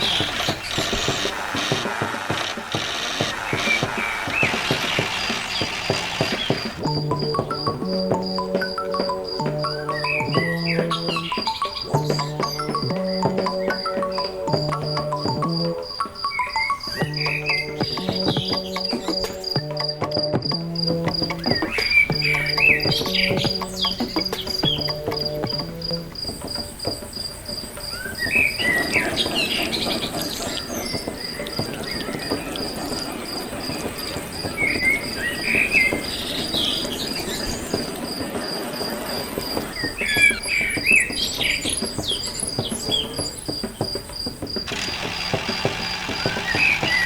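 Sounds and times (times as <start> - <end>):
bird chirping: 0.0 - 47.0
cricket trilling: 0.0 - 47.0.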